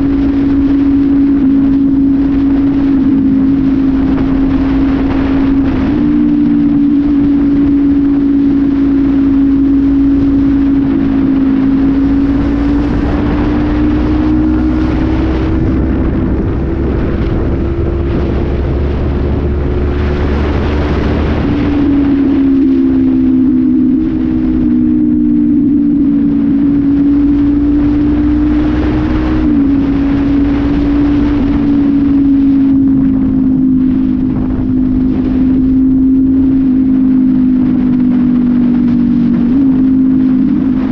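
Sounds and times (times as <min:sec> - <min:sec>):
motorcycle engine running: 0:00.0 - 0:40.9
wind rushing: 0:00.0 - 0:40.9.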